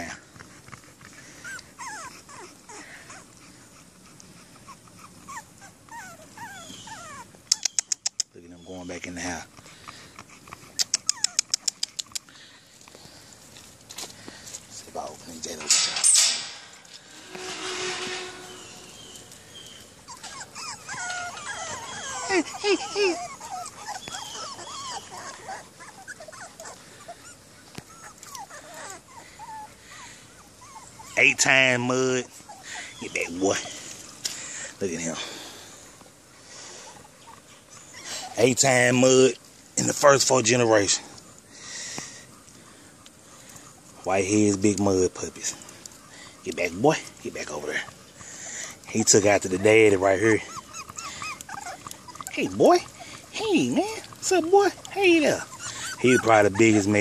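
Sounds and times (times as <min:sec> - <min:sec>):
puppies whimpering: 0:00.0 - 0:13.4, 0:14.2 - 0:57.0.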